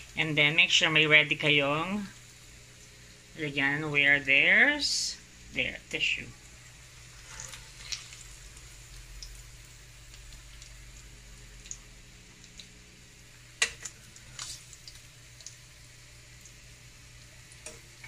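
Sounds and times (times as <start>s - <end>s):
butter sizzling in a pan: 0.0s - 4.5s, 5.2s - 18.0s.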